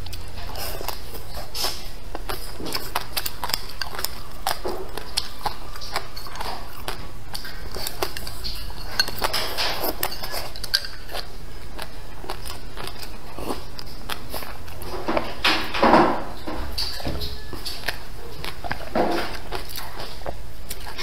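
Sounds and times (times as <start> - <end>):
chewing and mouth sounds: 0.0 - 21.0.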